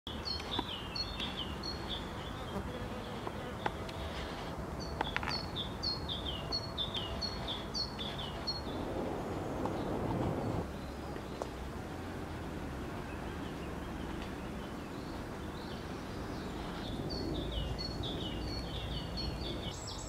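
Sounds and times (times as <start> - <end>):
songbird singing: 0.1 - 20.0.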